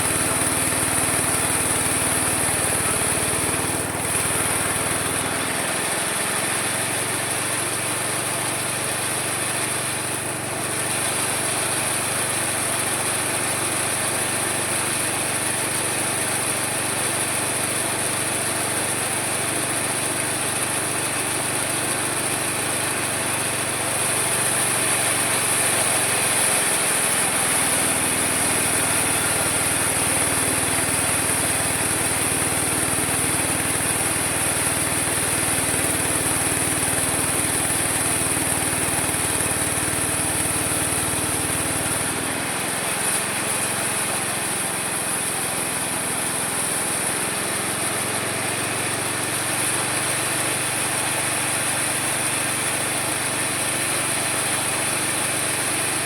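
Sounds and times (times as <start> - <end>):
sawmill running with high whine: 0.0 - 56.0.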